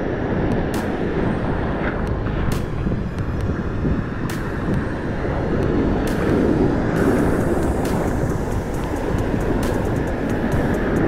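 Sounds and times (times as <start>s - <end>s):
surf rushing and foaming: 0.0s - 11.0s
wind rumbling on microphone: 0.0s - 11.0s.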